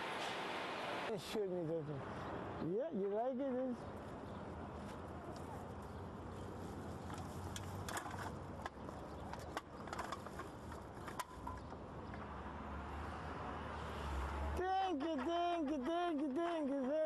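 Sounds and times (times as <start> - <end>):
low rumble of city traffic: 0.0 - 17.0.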